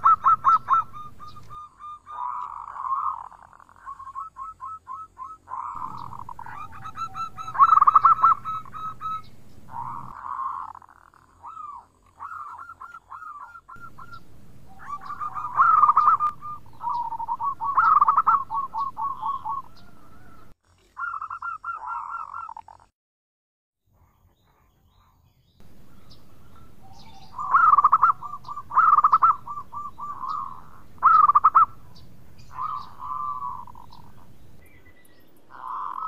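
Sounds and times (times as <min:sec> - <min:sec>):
dove cooing in staccato notes: 0:00.0 - 0:22.8, 0:25.6 - 0:34.6, 0:35.5 - 0:36.0.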